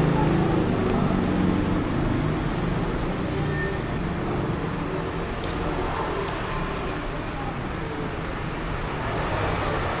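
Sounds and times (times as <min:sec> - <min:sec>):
low rumble of road traffic: 0:00.0 - 0:10.0.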